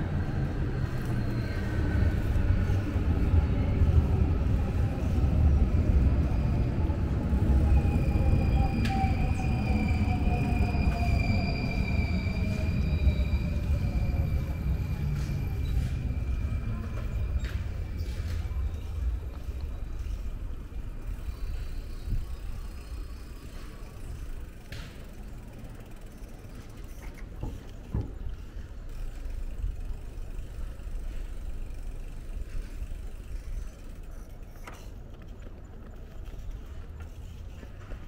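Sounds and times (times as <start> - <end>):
tyres rolling on asphalt: 0.0 - 38.0.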